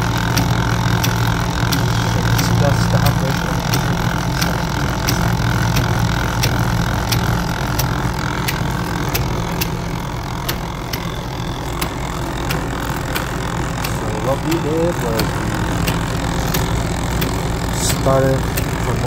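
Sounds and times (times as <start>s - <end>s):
gear machine humming: 0.0s - 19.0s.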